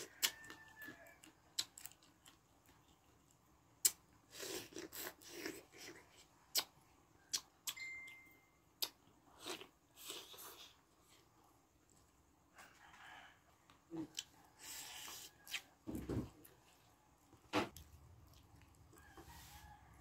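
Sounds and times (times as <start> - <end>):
crunching and chewing: 0.0 - 7.8, 8.8 - 20.0.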